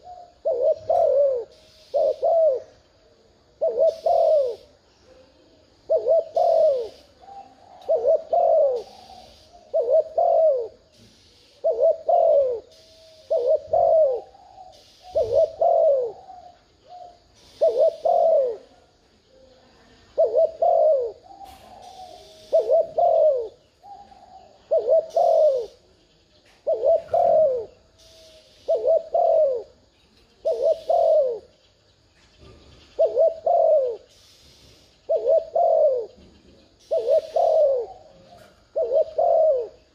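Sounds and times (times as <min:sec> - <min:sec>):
dove cooing: 0:00.0 - 0:31.6, 0:32.4 - 0:39.9.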